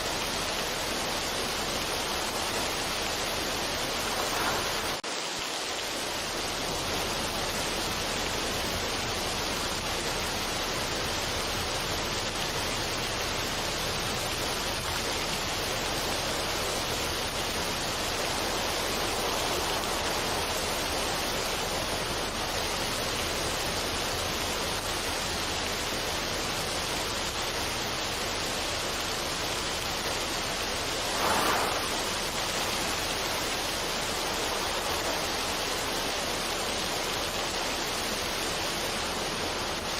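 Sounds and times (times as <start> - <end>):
steady rushing noise: 0.0 - 24.9, 27.6 - 39.9.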